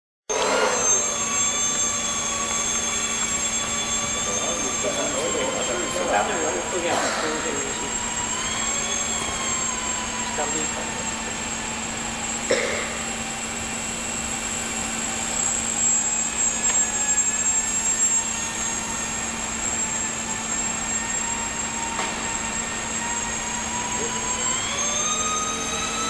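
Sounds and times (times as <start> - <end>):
model plane motor whining: 0.3 - 26.0.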